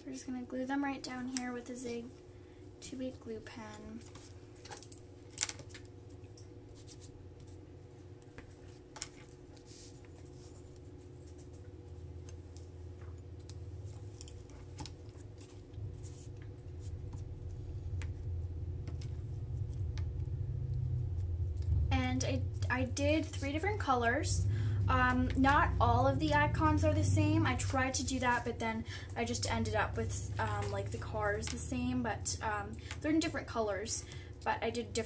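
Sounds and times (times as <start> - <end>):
low hum: 5.8 - 35.0.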